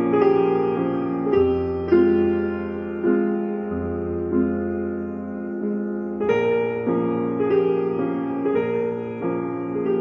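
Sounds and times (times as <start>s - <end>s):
slow solo piano music: 0.0s - 10.0s.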